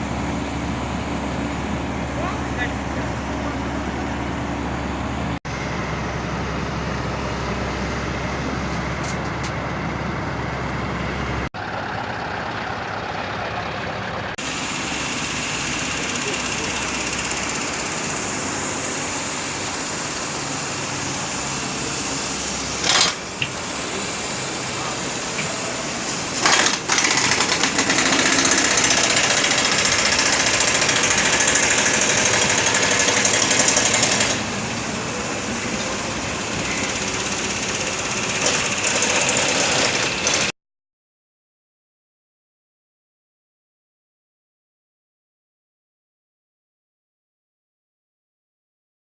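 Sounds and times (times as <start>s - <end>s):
excavator engine and hydraulics: 0.0s - 40.6s.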